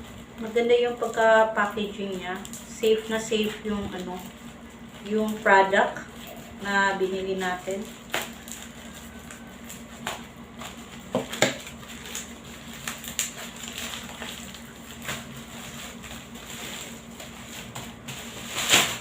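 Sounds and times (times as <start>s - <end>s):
bubble wrap crinkling and crackling: 0.0s - 19.0s.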